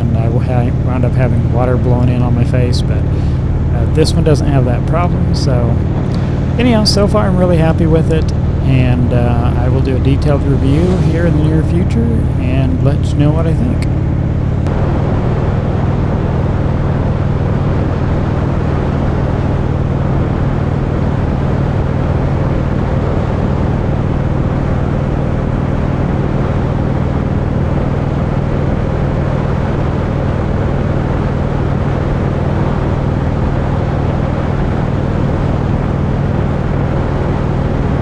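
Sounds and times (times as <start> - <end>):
motorcycle engine drone: 0.0 - 38.0
wind rush: 0.0 - 38.0.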